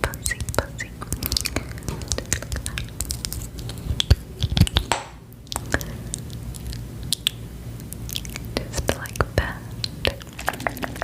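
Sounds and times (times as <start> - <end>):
wet mouth clicks and smacks: 0.2 - 11.0.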